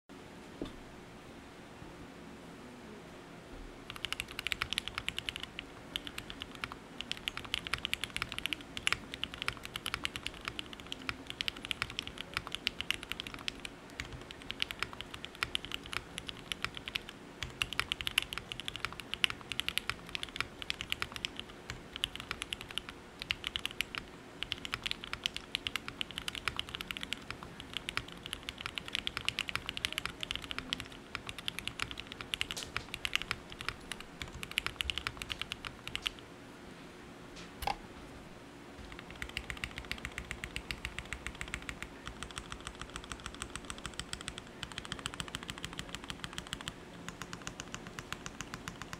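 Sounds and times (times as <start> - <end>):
mechanical keyboard typing: 3.9 - 36.2, 38.9 - 48.9.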